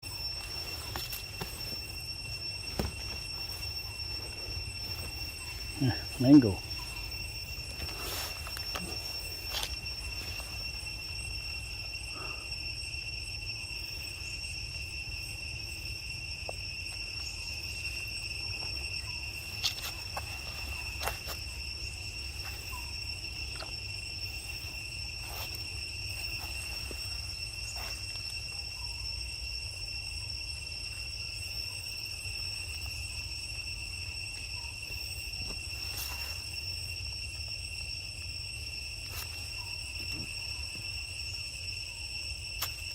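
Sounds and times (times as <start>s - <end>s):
crickets droning: 0.0s - 42.9s.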